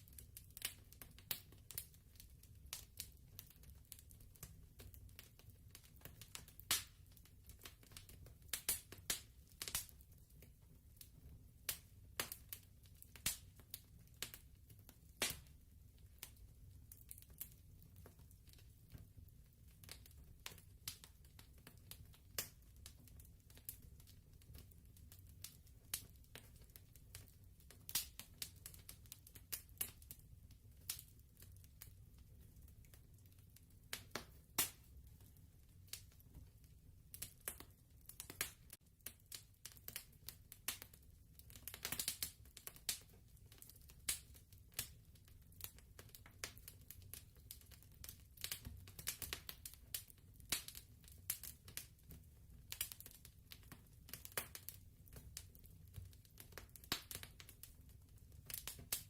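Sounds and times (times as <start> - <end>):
wood fire popping and snapping: 0.0 - 59.0.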